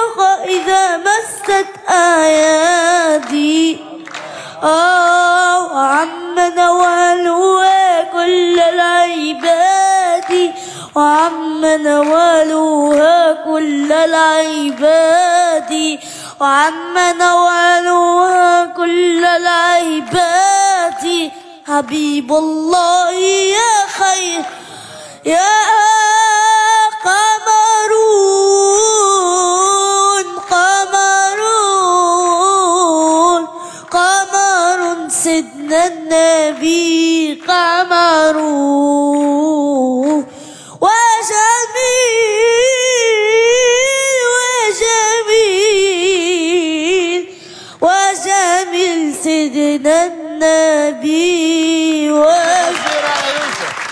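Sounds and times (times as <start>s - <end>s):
boy singing devotional song: 0.0s - 53.9s.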